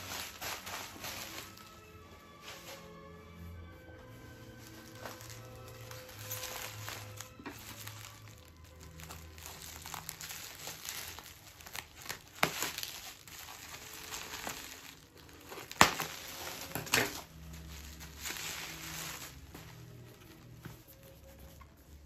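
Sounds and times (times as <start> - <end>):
bubble wrap sharp cracks: 0.0 - 2.9, 4.4 - 22.0
bubble wrap crinkling: 0.0 - 22.0.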